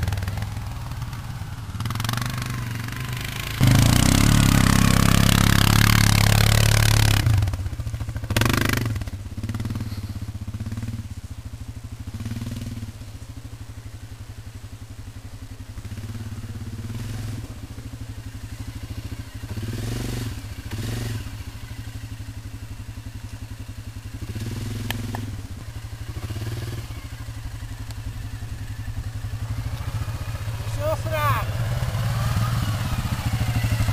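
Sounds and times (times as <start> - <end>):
quad bike engine revving: 0.0 - 11.1, 12.1 - 13.0, 15.7 - 33.9.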